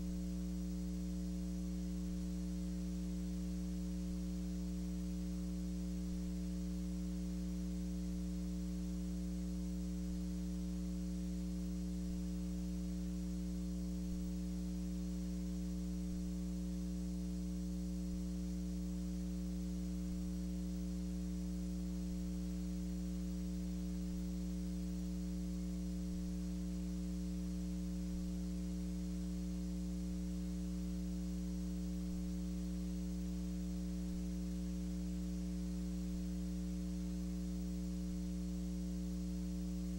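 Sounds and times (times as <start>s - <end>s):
electrical mains hum: 0.0s - 39.9s
faint hiss: 0.0s - 39.9s.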